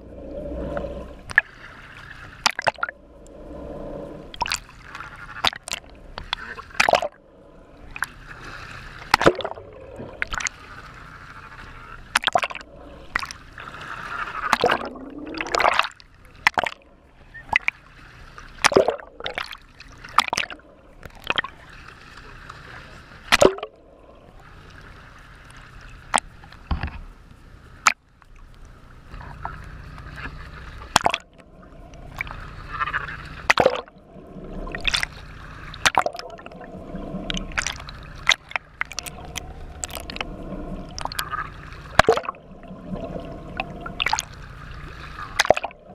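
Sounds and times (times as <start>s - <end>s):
sea water splashing against camera: 0.0s - 45.9s.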